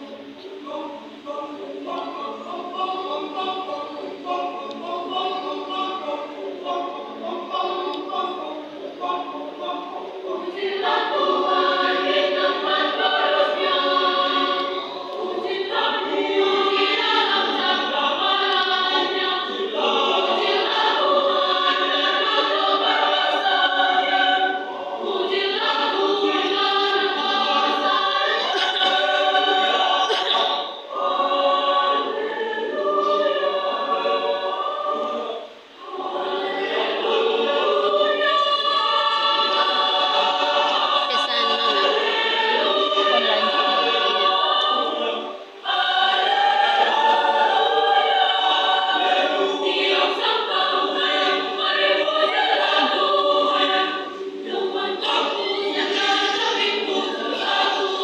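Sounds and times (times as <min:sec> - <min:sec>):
youth choir singing: 0:00.0 - 0:58.0.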